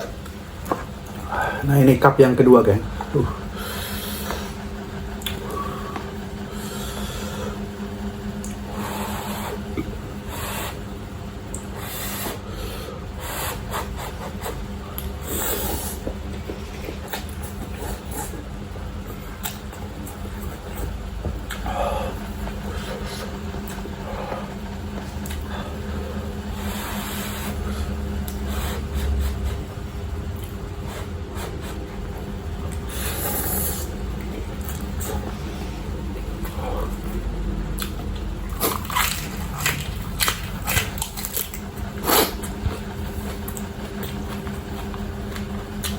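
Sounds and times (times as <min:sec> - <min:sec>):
steady low hum: 0:00.0 - 0:45.9
person chewing noodles: 0:03.2 - 0:45.9.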